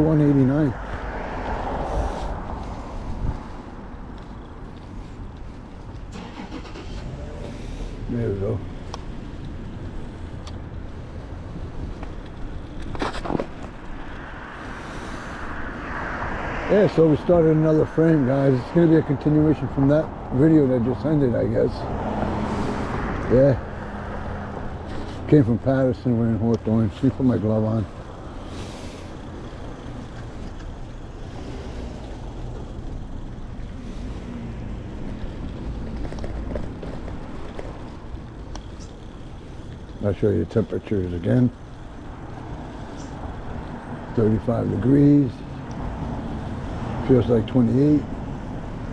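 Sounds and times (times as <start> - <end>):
street traffic rumble: 0.0 - 48.9
wind and road noise: 0.0 - 48.9.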